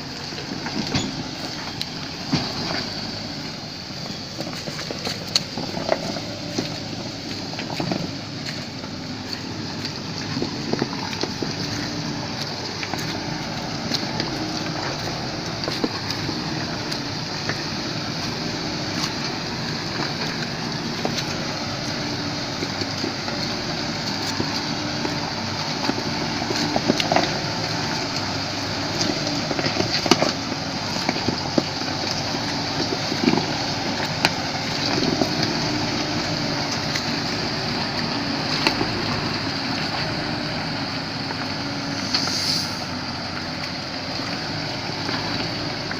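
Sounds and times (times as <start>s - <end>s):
vehicle engine hum: 0.0s - 45.9s
wet road noise: 0.0s - 45.9s.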